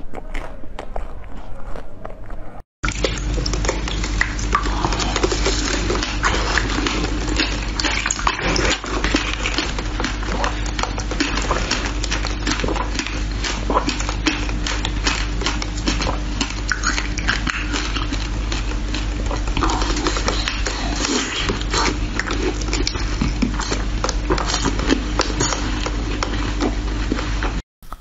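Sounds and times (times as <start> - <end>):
ice crunching between teeth: 0.0 - 27.4.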